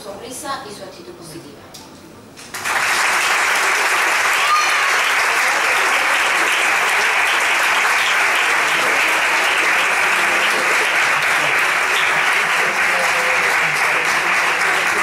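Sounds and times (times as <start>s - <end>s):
audience applauding: 2.4s - 15.0s.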